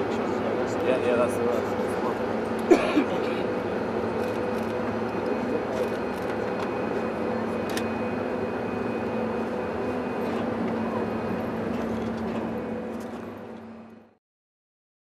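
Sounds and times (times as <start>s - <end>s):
engine drone: 0.0s - 14.2s.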